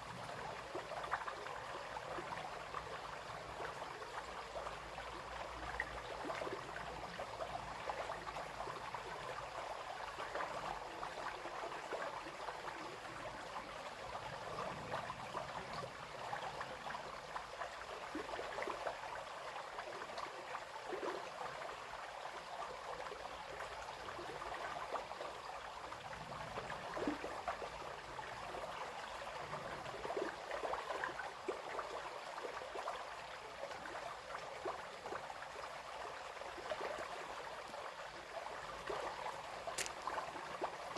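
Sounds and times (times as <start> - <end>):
brook babbling over stones: 0.0 - 40.9.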